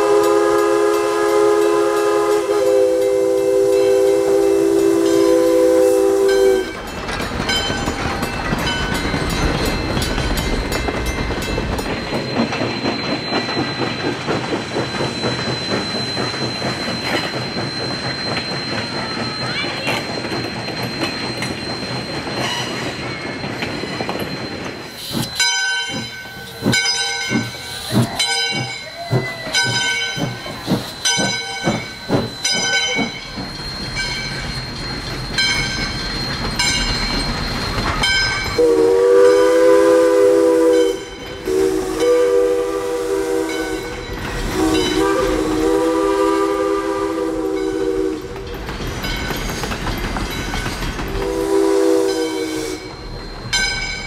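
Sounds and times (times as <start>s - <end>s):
chime steam whistle: 0.0s - 49.5s, 51.1s - 54.0s
locomotive bell ringing: 0.0s - 54.0s
passing train rumble: 0.0s - 54.0s.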